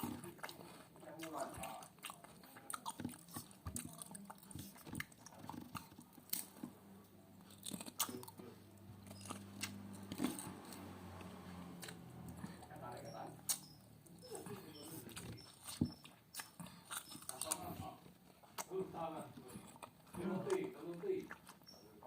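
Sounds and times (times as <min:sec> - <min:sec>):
faint low hum: 0:00.0 - 0:22.0
person chewing crunchy food: 0:00.0 - 0:22.0.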